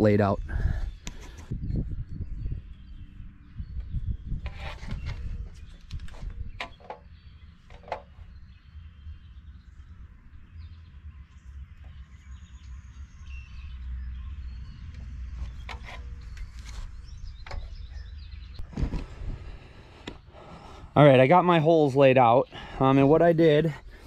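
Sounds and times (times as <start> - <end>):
wind rumble on microphone: 0.0 - 20.9.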